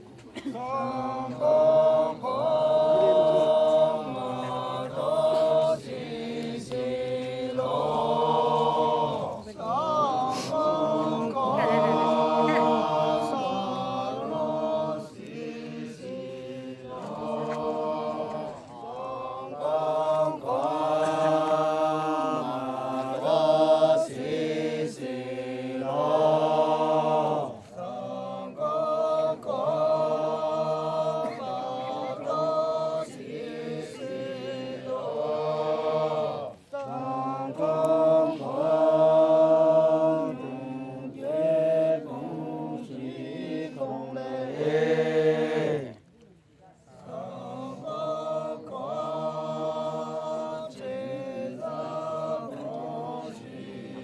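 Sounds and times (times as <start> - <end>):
men's choir singing unaccompanied: 0.0 - 46.0, 47.0 - 54.0.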